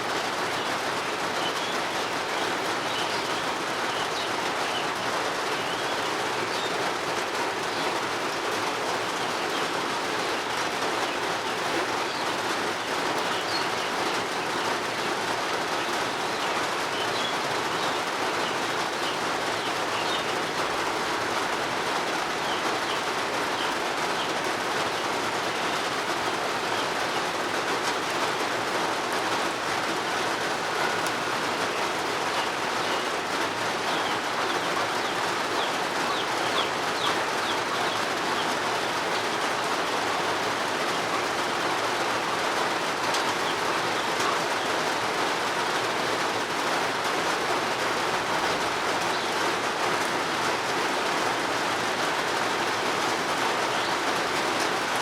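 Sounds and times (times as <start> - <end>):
rain falling: 0.0 - 55.0
small birds chirping: 0.0 - 55.0.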